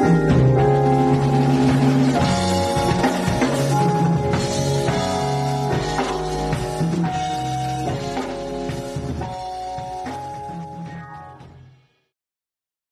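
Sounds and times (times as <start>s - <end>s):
keyboard chords: 0.0s - 11.8s
bass: 0.0s - 12.0s
drum kit: 0.0s - 12.1s.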